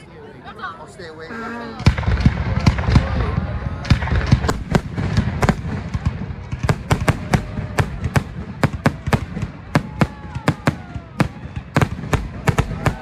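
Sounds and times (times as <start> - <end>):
fireworks bangs and cracks: 1.9 - 13.0.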